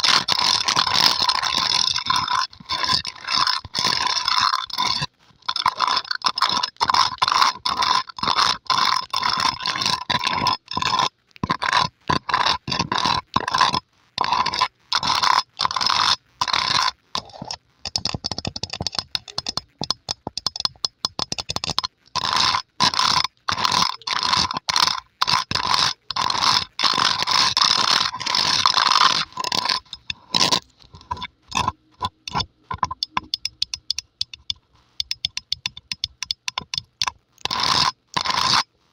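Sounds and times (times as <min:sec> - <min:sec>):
fingernails scratching microphone grille: 0:00.0 - 0:38.9.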